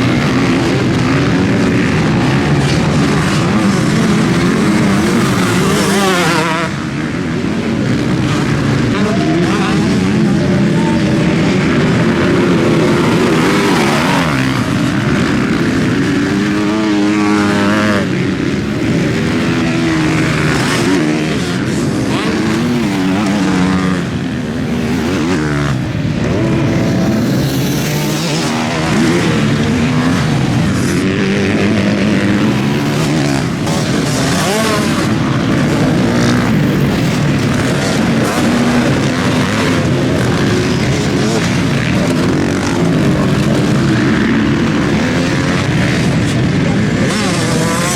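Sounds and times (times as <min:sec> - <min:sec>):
motocross bikes revving: 0:00.0 - 0:47.9.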